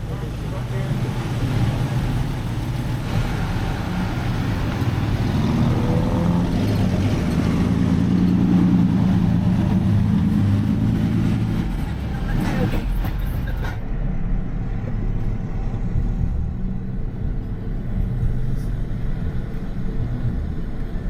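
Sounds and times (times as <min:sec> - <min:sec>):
car engine droning: 0:00.0 - 0:21.0.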